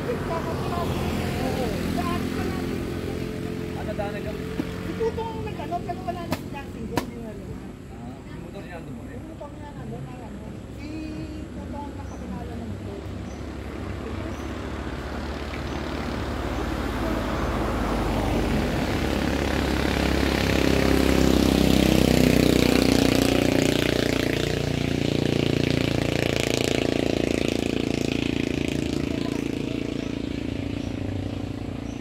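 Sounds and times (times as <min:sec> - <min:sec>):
motorcycle engine accelerating: 0:00.0 - 0:32.0
rushing road noise: 0:00.0 - 0:32.0.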